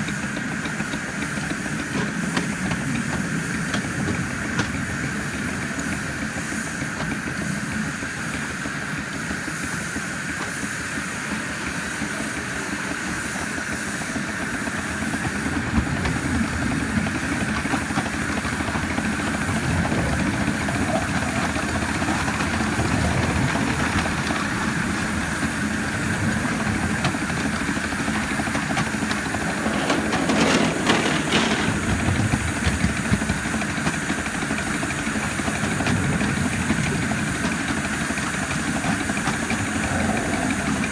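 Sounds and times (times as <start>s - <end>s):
locomotive engine and wheels rumbling: 0.0s - 40.9s
steam hiss: 0.0s - 40.9s.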